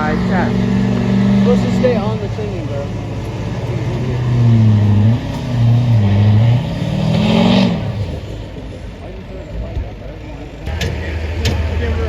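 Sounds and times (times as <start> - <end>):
truck engine revving under load: 0.0 - 12.0.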